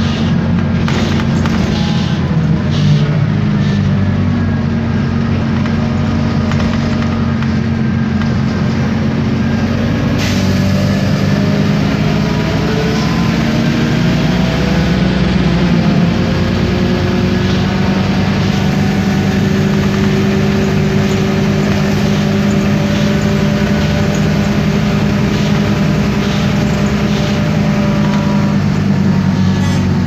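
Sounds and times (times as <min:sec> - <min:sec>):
gearbox whine: 0:00.0 - 0:10.2, 0:10.8 - 0:30.0
bus diesel engine running: 0:00.0 - 0:30.0.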